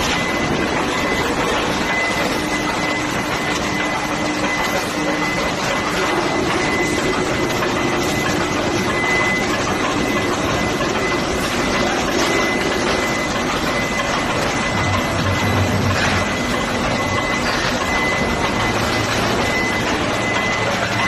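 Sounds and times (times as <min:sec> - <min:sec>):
vibration table mechanical noise: 0:00.0 - 0:21.0.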